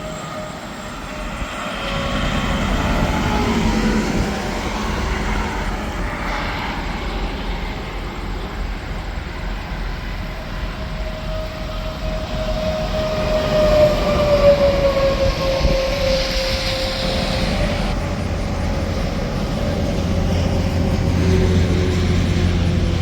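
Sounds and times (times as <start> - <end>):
highway traffic rumble: 0.0 - 23.0
truck whine passing by: 0.0 - 23.0.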